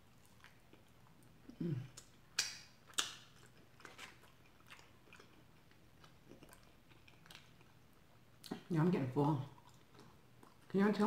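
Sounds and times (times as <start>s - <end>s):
soft chewing: 0.0s - 11.0s.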